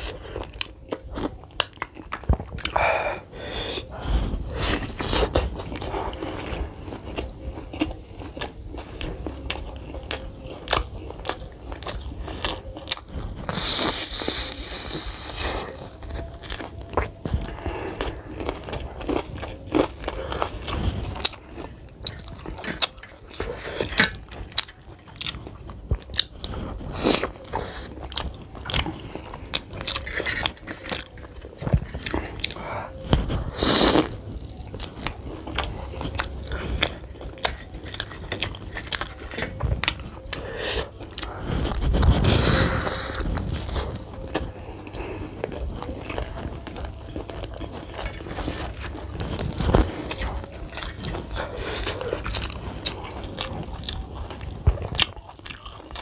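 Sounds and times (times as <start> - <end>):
wet chewing with clicks: 0.0 - 2.8, 3.8 - 56.0.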